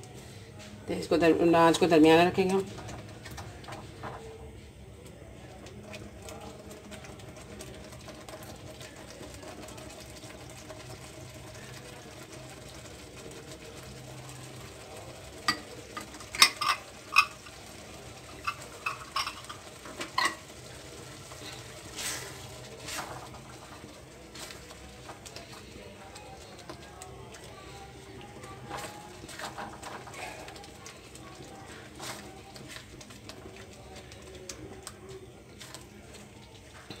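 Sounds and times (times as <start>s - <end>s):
low steady sizzle: 0.0s - 37.0s.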